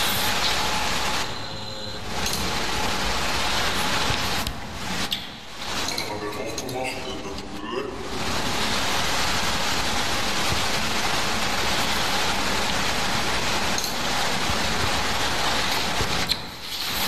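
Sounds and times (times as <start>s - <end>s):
steady rushing hiss: 0.0s - 6.6s, 8.0s - 17.0s.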